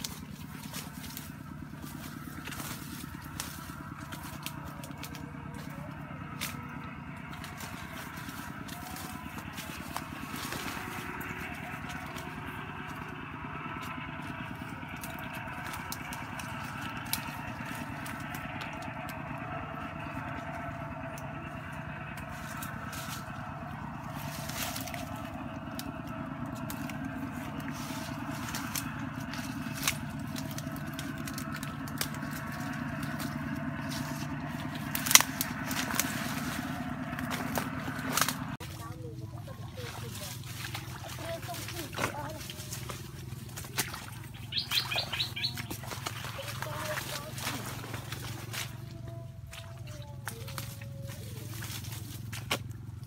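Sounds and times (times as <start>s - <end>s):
steady low hum: 0.0s - 53.0s
twigs and dry leaves crackling: 0.0s - 53.0s.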